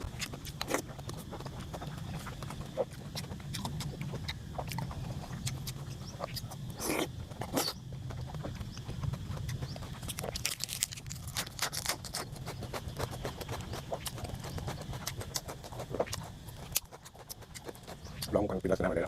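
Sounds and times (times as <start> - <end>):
person chewing noisily: 0.0 - 19.0
steady low hum: 0.0 - 19.0.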